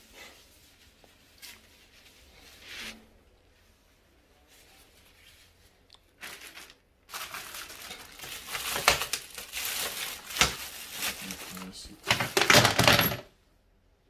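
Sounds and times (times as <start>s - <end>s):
crinkling handling noise: 0.1s - 13.2s.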